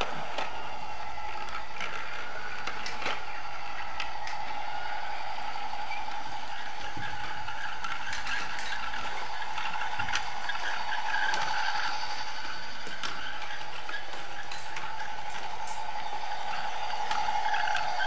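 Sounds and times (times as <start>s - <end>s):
toy train motor whining: 0.0s - 18.0s.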